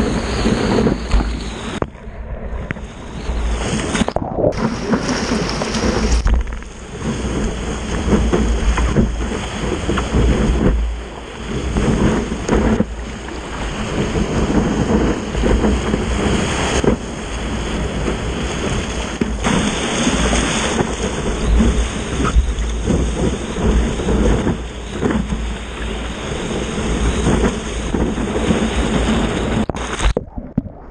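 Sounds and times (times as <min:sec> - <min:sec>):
waves breaking and splashing: 0:00.0 - 0:30.9
wind buffeting microphone: 0:00.0 - 0:30.9.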